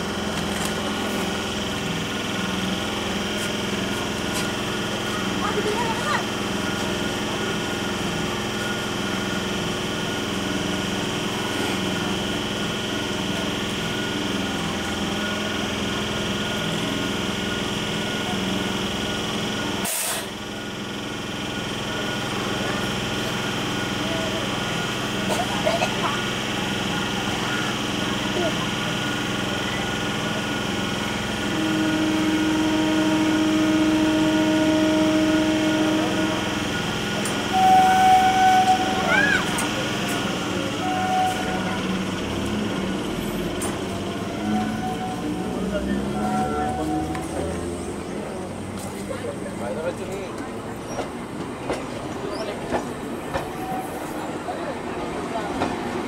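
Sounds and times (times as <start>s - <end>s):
electric train humming: 0.0s - 56.0s.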